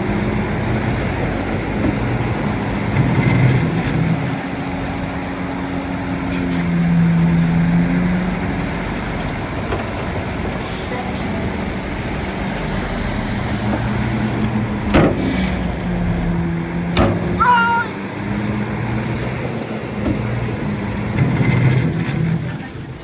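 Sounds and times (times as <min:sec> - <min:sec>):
bulldozer engine running: 0:00.0 - 0:23.0.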